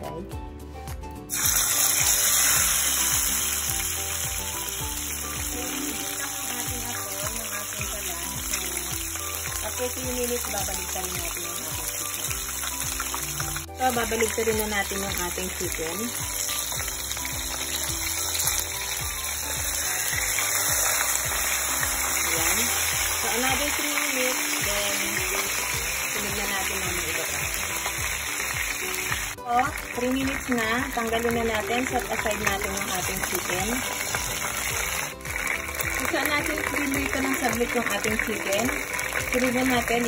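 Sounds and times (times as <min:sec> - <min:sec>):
background music with beat: 0:00.0 - 0:40.0
chicken sizzling in hot oil: 0:01.3 - 0:40.0.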